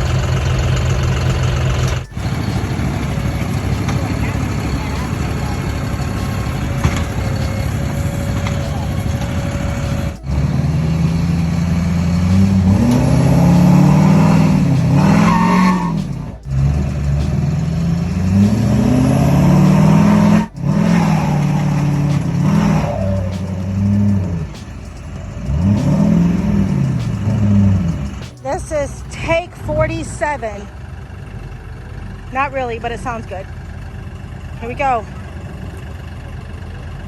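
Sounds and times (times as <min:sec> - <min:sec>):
tractor engine revving: 0:00.0 - 0:37.0.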